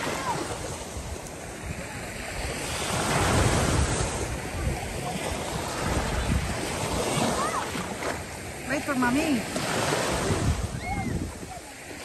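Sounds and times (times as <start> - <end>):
small waves breaking on sand: 0.0 - 12.0
wind rumbling on microphone: 0.0 - 12.0.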